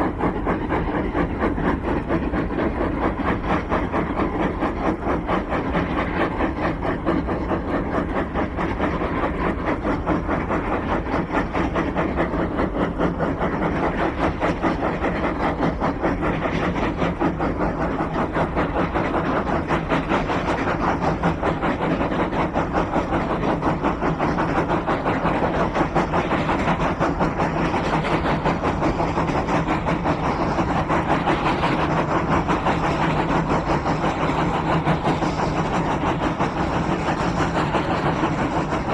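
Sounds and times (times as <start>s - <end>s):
steam locomotive chuffing: 0.0s - 38.9s.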